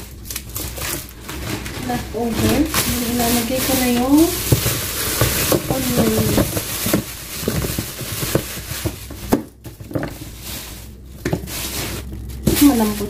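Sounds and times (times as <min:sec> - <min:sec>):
plastic bag rustling: 0:00.0 - 0:13.0
onions knocking into a bin: 0:01.5 - 0:13.0.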